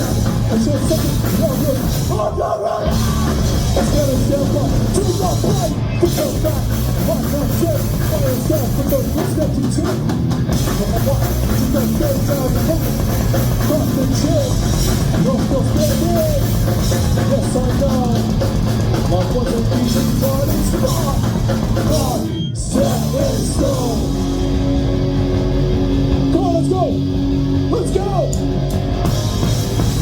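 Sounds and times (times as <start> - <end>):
distorted guitars: 0.0 - 30.0
hardcore punk band playing: 0.0 - 30.0
pounding drums: 0.0 - 30.0.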